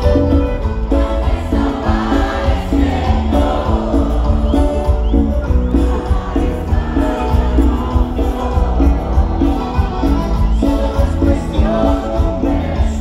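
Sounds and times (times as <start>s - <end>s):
live band music: 0.0s - 13.0s
voices singing held notes: 0.0s - 13.0s.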